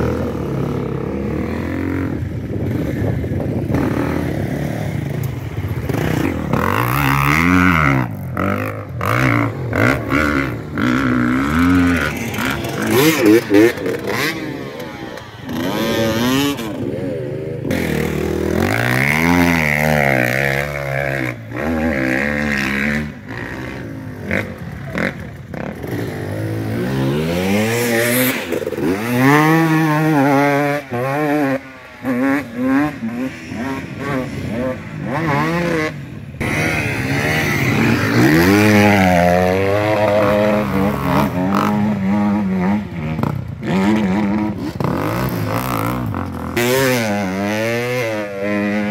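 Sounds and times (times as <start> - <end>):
off-road engines revving: 0.0 - 48.9.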